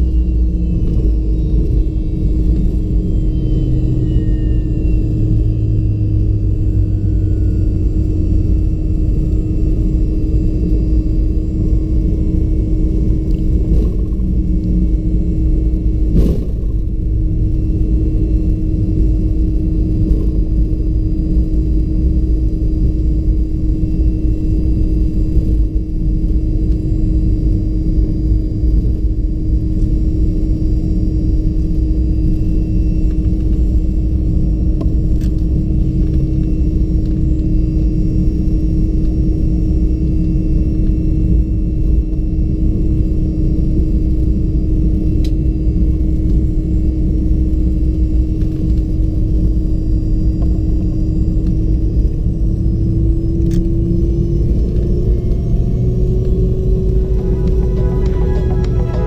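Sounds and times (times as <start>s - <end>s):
constant low rumble: 0.0s - 59.0s
jet engine idling hum: 0.0s - 59.0s.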